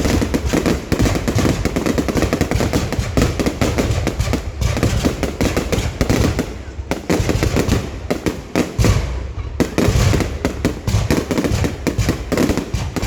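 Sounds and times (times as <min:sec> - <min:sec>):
fireworks bangs and crackles: 0:00.0 - 0:13.0
heavy low firework booms: 0:00.0 - 0:13.0.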